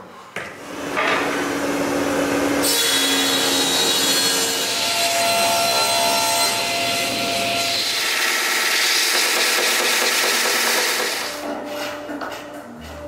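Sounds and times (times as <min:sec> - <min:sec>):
table saw cutting wood: 0:00.6 - 0:11.4.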